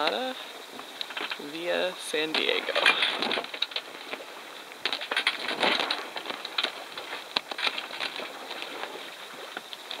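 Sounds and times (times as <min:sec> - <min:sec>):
water splashing against boat hull: 0:00.0 - 0:10.0.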